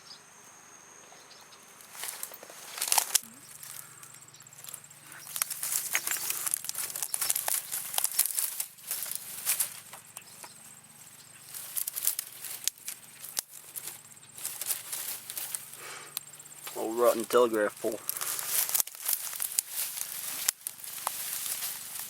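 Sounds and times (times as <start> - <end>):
dry leaves and twigs rustling: 1.2 - 22.0.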